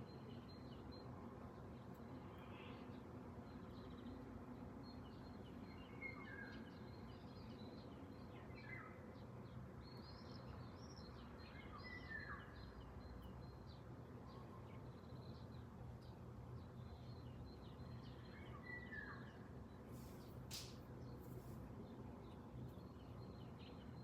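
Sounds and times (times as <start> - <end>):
songbirds chirping: 0.0 - 24.0
steady low background noise: 0.0 - 24.0.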